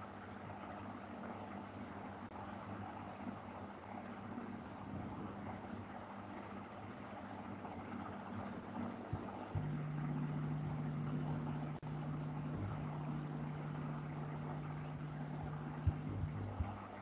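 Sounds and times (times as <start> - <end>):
low mechanical hum with hiss: 0.0 - 17.0.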